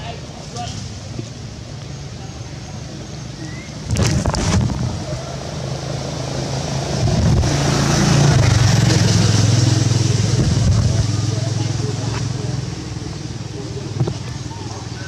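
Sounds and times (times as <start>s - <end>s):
vehicle engine running: 1.0s - 15.0s.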